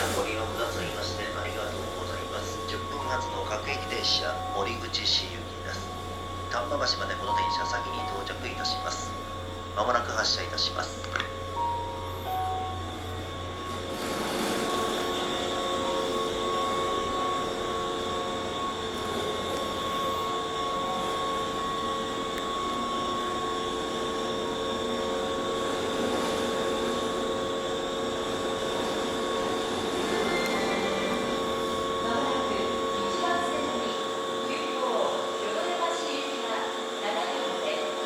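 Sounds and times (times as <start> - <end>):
electric train equipment humming: 0.0 - 38.0.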